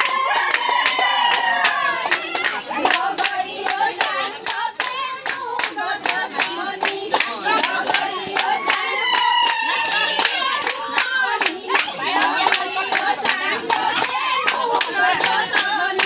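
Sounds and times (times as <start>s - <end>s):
group of voices singing: 0.0s - 16.0s
people clapping in rhythm: 0.0s - 16.0s.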